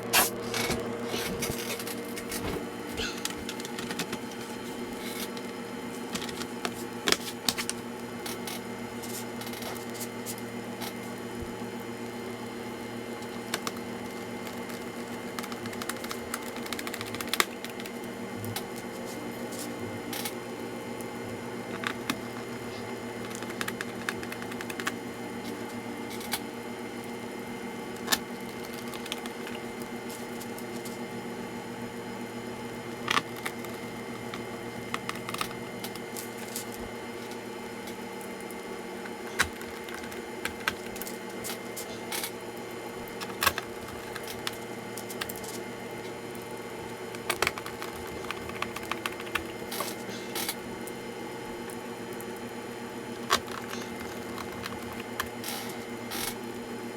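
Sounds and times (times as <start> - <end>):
steady electrical hum: 0.0 - 56.9.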